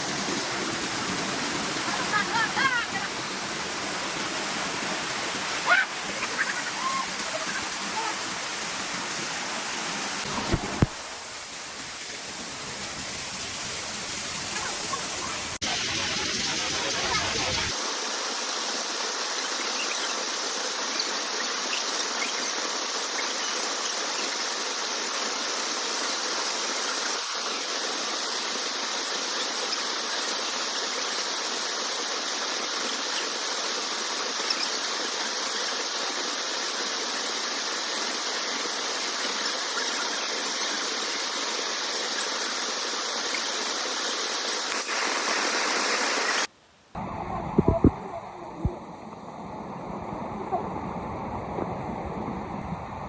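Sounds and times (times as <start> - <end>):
waterfall rushing: 0.0 - 47.1.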